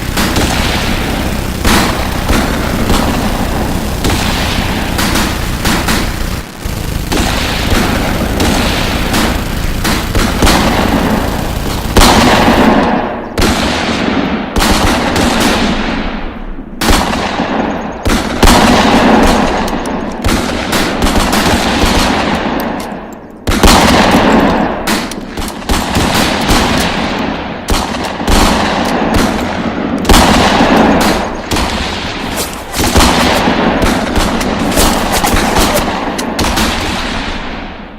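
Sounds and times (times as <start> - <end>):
automatic gunfire bursts: 0.0 - 16.2, 16.8 - 37.6
loud echoing blasts: 0.0 - 37.9
single gunshots: 0.0 - 37.9.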